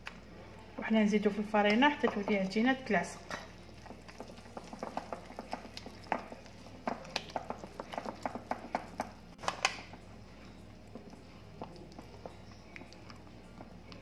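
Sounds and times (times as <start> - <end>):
wooden spoon stirring dough: 1.5 - 14.0.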